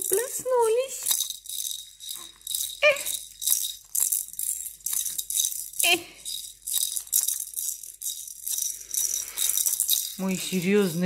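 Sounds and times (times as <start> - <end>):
baby's rattle toy shaken: 0.0 - 11.0.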